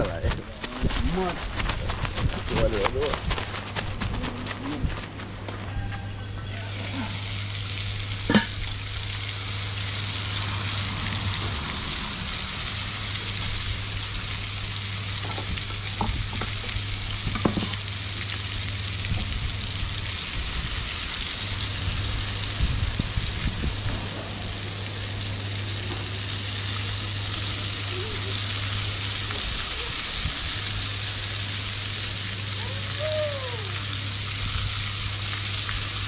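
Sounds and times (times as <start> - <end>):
food sizzling in hot oil: 6.5 - 36.0.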